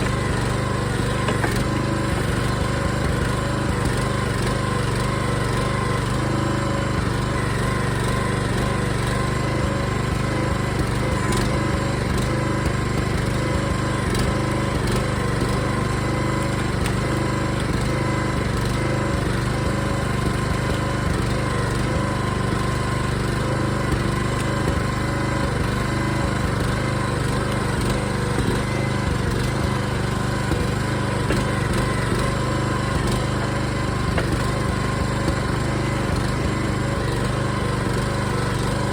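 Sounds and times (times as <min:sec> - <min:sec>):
small gas engine running steadily: 0:00.0 - 0:38.9.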